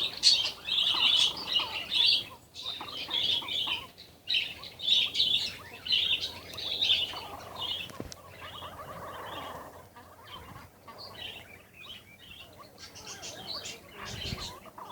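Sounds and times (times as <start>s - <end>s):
birds chirping sharply: 0.0s - 14.9s
rapid rattling bird calls: 0.0s - 14.9s.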